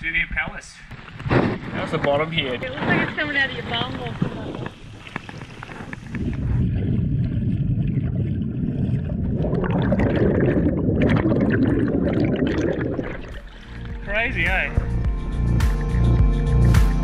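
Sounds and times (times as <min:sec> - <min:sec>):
muffled underwater water sloshing: 0:00.9 - 0:14.9.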